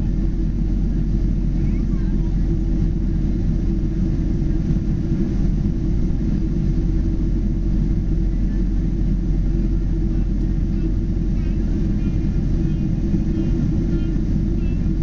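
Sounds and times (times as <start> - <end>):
jet engine rumble in flight: 0.0 - 15.0.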